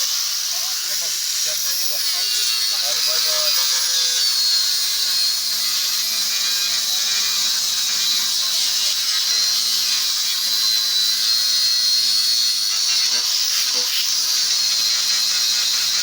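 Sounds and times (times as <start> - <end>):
power sander running: 0.0 - 16.0.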